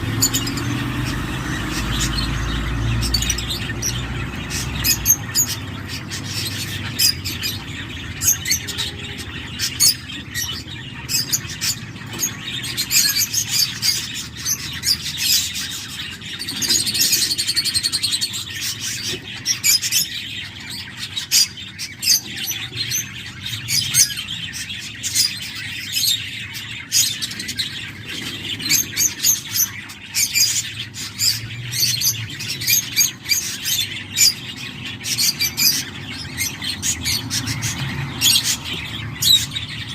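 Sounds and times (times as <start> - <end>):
cockatiel chicks chirping: 0.0 - 39.9.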